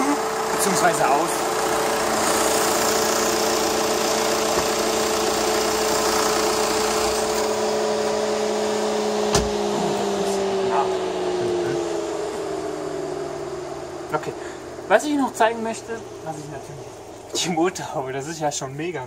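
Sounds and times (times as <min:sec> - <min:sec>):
diesel engine whining hum: 0:00.0 - 0:19.0
low engine rumble: 0:00.0 - 0:19.0.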